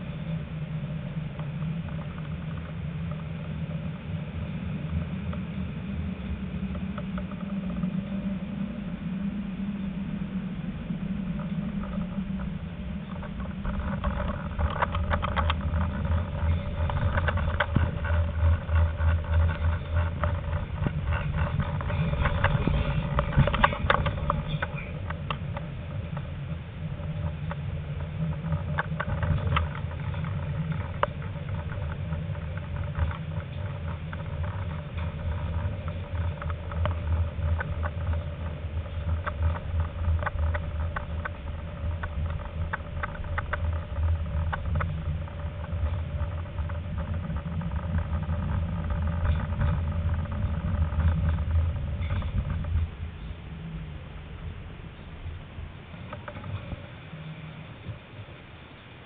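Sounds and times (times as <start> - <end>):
tram clicks and rattles: 0.0 - 59.0
tram rumbling on rails: 0.0 - 59.0.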